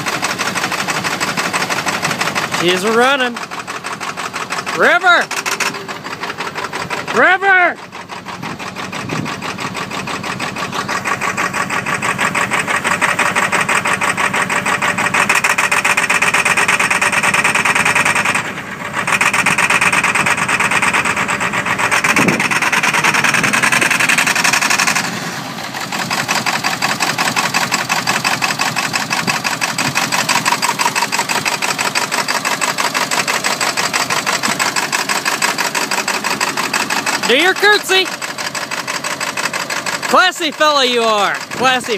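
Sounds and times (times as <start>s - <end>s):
diesel engine clattering: 0.0s - 41.9s.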